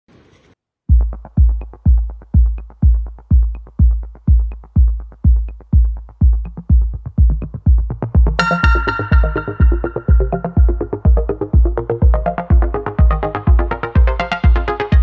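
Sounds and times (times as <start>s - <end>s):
heavy kick drum: 0.9s - 15.0s
synth chords: 0.9s - 15.0s.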